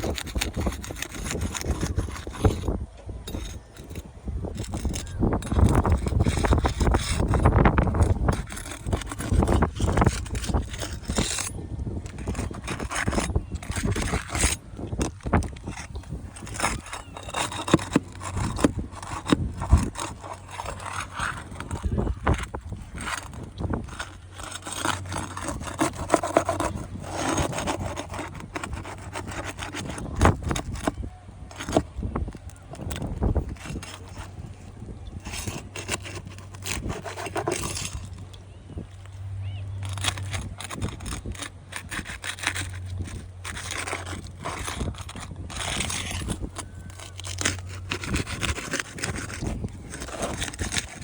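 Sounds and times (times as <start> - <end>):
scraping and rubbing: 0.0 - 51.0.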